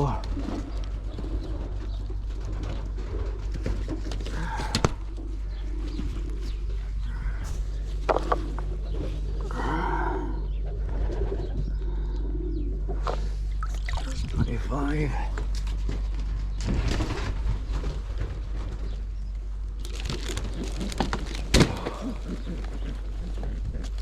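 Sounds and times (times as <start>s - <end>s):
pigeons cooing: 0.0s - 16.6s, 17.2s - 24.0s
low hum: 0.0s - 24.0s.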